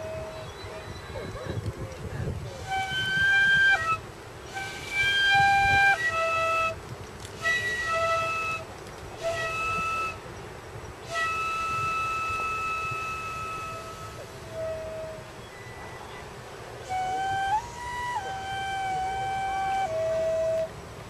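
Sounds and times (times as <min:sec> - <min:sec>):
stone flute whistling notes: 0:00.0 - 0:01.6, 0:02.5 - 0:10.4, 0:11.0 - 0:20.8.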